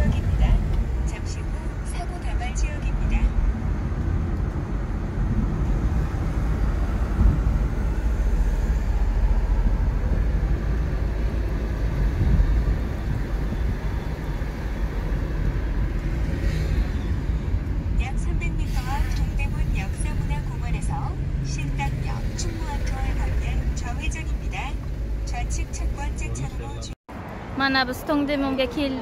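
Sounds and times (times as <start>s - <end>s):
car interior road and engine noise: 0.0s - 29.0s.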